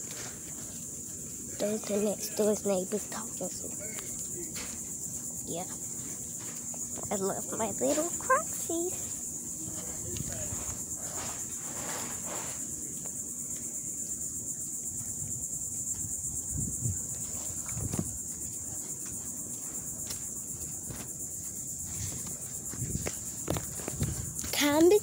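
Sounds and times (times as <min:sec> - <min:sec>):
insect chorus pulsing: 0:00.0 - 0:25.0.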